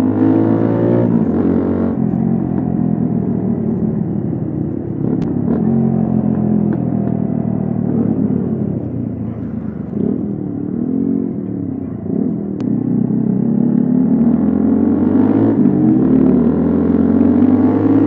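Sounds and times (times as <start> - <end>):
motorcycle engine while riding: 0.0 - 18.0.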